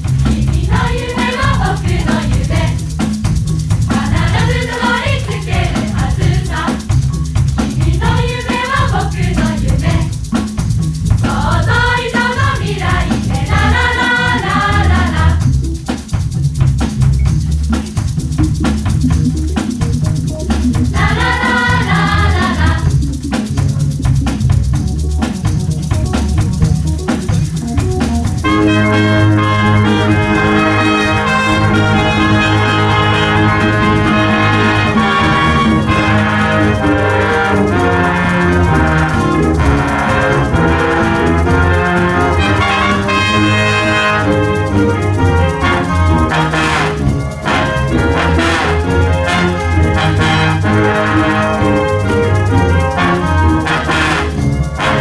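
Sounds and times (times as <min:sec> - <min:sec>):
drum and bass groove: 0:00.0 - 0:55.0
shaker-like percussion: 0:00.0 - 0:55.0.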